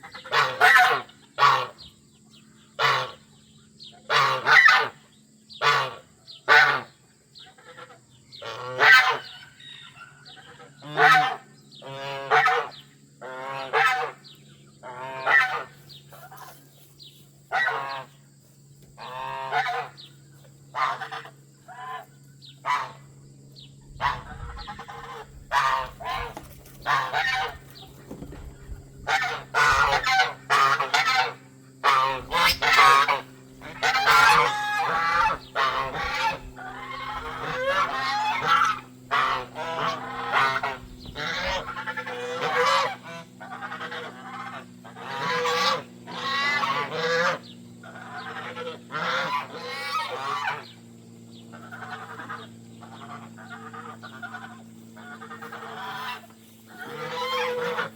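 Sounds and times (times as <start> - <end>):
geese honking: 0.0 - 1.9, 2.8 - 16.9, 17.5 - 18.3, 19.0 - 23.1, 23.8 - 57.9
steady low hum: 0.0 - 57.9.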